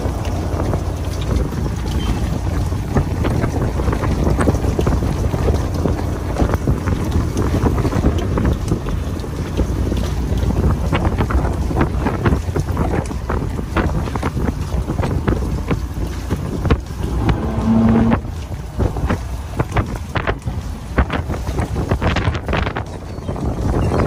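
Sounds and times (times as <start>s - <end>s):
waves slapping boat hull: 0.0s - 24.0s
wind buffeting microphone: 0.0s - 24.0s.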